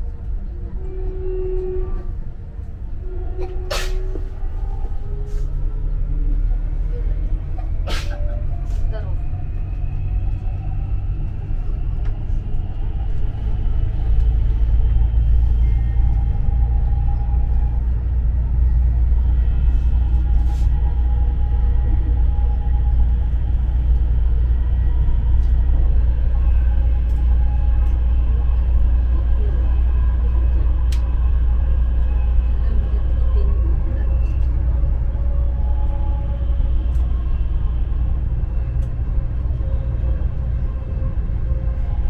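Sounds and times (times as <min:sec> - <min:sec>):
train rumble: 0:00.0 - 0:42.0.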